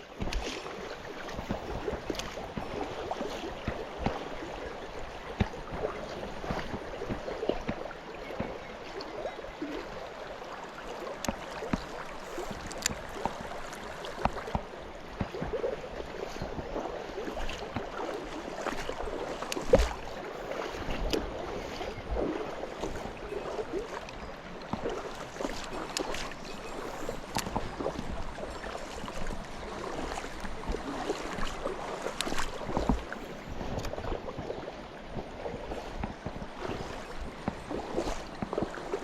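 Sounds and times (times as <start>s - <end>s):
small stream running: 0.0s - 39.0s
water splashes and knocks: 0.0s - 39.0s.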